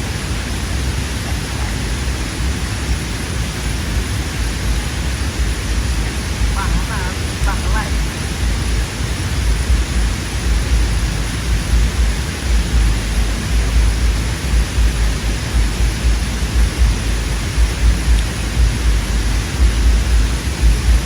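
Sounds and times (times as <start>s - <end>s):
steady hiss: 0.0s - 21.0s
wind buffeting microphone: 0.0s - 21.0s.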